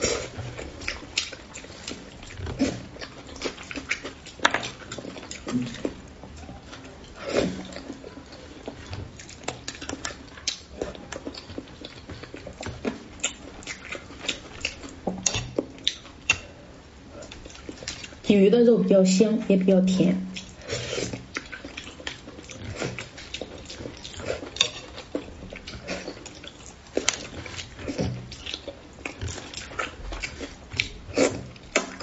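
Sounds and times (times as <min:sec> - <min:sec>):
chewing and lip-smacking: 0:00.0 - 0:18.3, 0:20.2 - 0:32.0.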